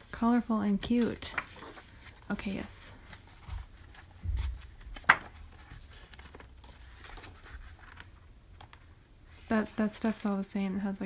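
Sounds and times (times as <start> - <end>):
diary pages turning: 0.0 - 10.5.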